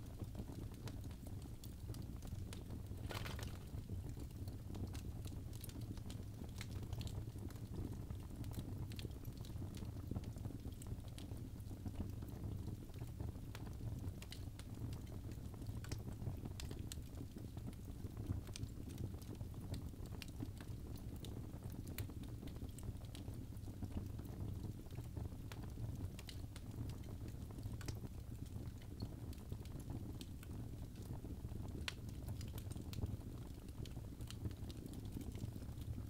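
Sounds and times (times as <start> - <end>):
fire crackling and popping: 0.0 - 36.0
fire rumbling: 0.0 - 36.0.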